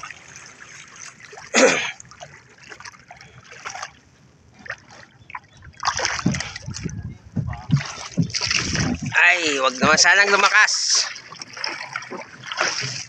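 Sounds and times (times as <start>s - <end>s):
sea water splashing around boat: 0.0s - 13.0s.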